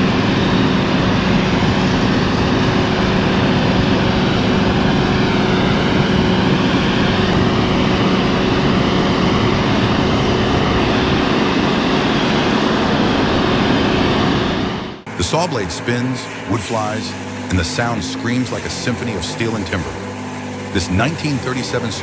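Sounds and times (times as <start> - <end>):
circular saw running: 0.0 - 22.0.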